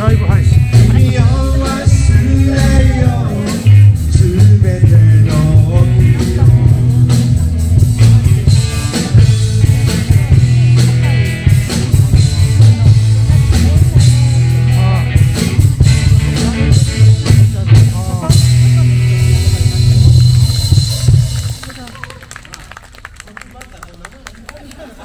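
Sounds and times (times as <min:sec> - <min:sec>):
heavy bass line: 0:00.0 - 0:21.6
drum kit steady beat: 0:00.0 - 0:21.8
electric guitar: 0:00.0 - 0:22.3.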